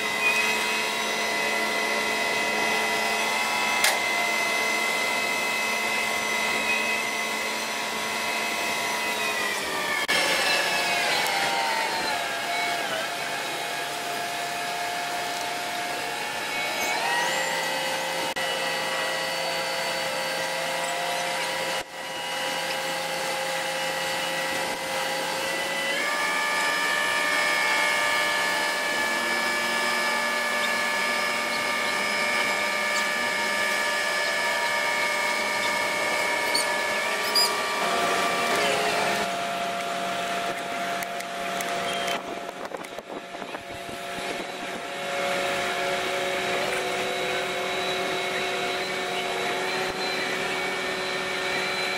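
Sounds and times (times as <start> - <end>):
crane engine and hydraulics whining: 0.0 - 51.9.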